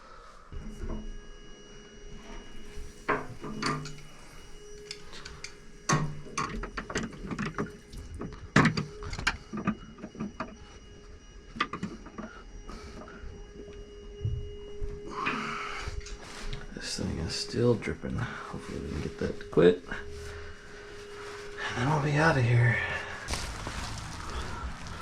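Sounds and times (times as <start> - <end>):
faint steady tone: 0.0 - 25.0.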